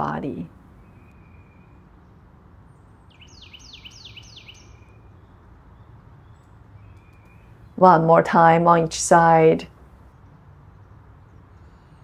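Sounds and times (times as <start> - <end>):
faint low outdoor rumble: 0.0 - 12.0.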